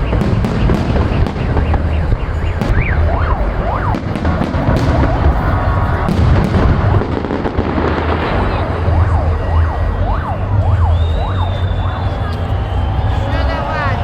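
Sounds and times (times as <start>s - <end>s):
electronic siren wailing: 0.0s - 14.0s
fireworks bangs: 0.0s - 14.0s
steady low rumble: 0.0s - 14.0s.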